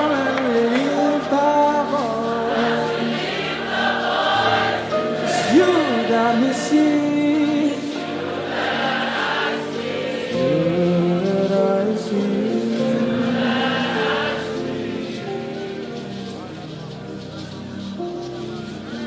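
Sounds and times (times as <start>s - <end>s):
soft instrumental backing: 0.0s - 19.0s
voices singing held notes: 0.0s - 19.0s.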